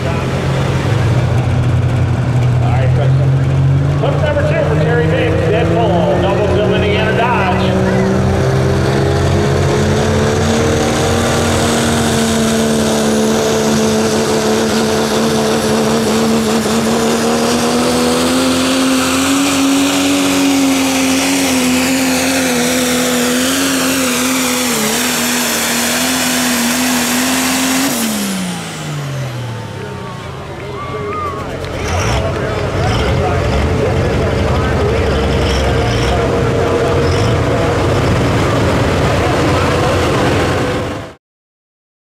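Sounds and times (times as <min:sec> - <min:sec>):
diesel truck engine droning: 0:00.0 - 0:41.2.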